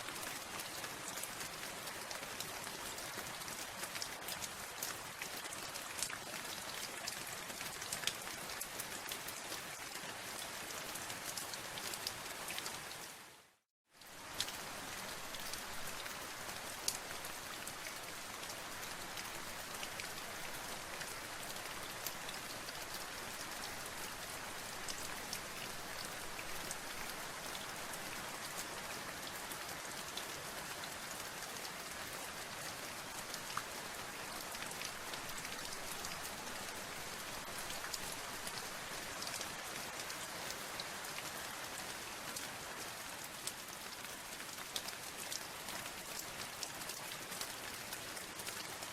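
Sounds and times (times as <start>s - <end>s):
rain pattering: 0.0s - 13.2s, 14.0s - 48.9s.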